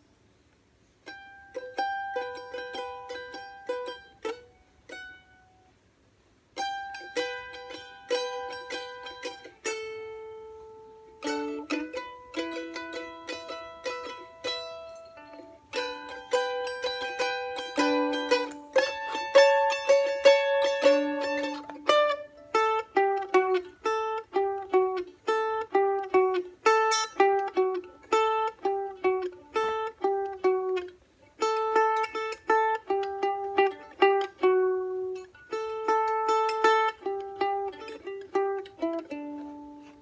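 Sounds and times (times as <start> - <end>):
mandolin picking a melody: 0.7 - 40.0.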